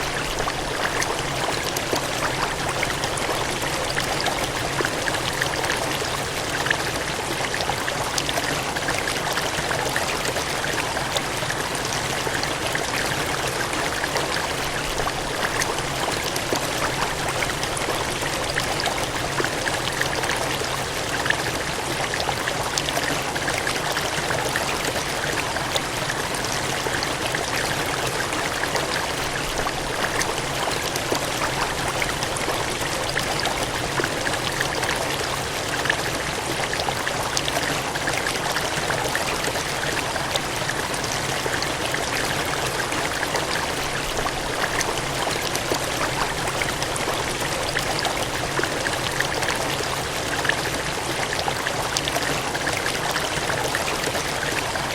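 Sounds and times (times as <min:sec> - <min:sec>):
water gushing and cascading: 0:00.0 - 0:54.9.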